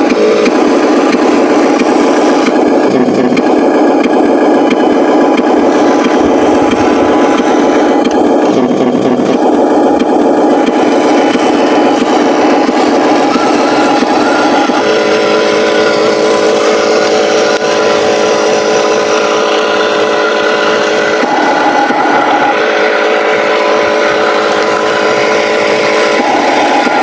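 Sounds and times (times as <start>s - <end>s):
toy truck engine drone: 0.0s - 27.0s.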